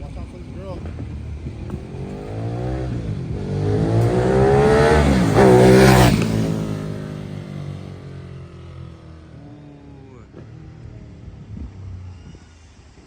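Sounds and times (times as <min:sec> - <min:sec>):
motorcycle accelerating past: 0:01.4 - 0:12.4.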